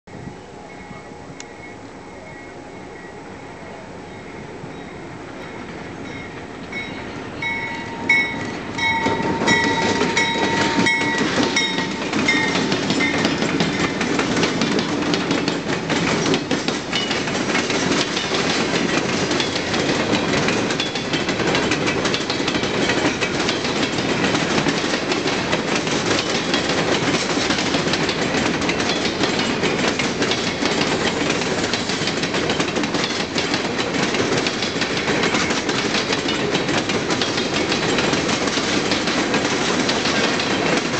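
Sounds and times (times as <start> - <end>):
locomotive high ringing tone: 0.1 - 40.9
rumble and clatter of train cars: 0.1 - 40.9
train wheel clicks: 6.3 - 40.9.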